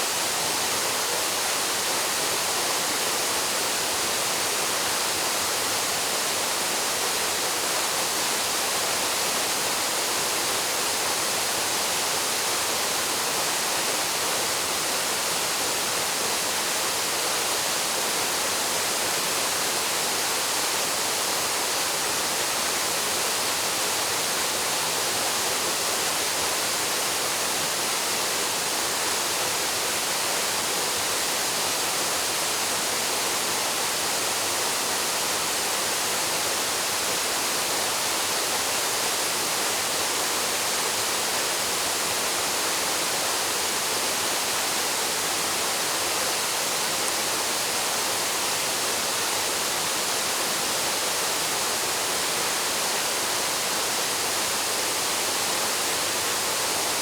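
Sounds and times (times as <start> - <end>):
waterfall rushing into pool: 0.0 - 57.0.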